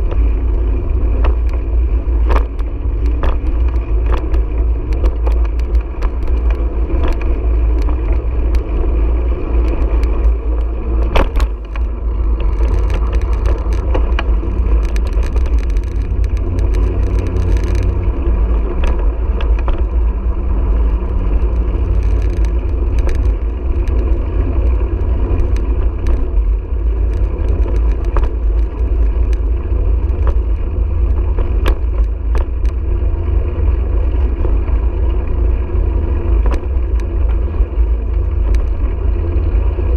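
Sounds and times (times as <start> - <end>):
tyres rolling over pavement: 0.0 - 39.9.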